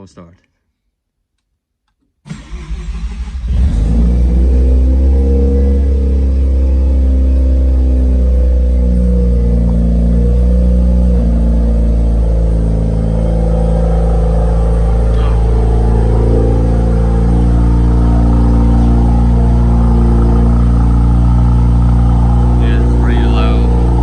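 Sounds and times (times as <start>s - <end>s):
rotary engine idling: 4.2s - 24.0s.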